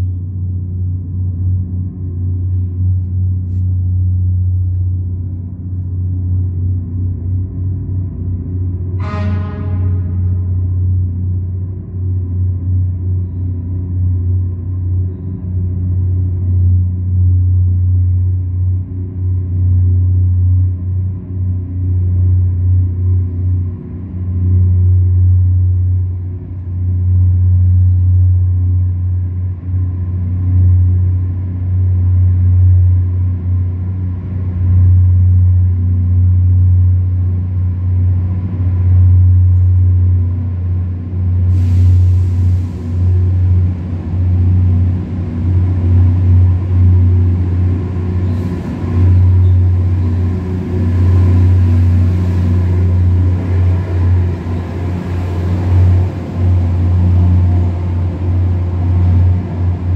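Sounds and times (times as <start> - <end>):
diesel train engines rumbling: 0.0 - 59.9.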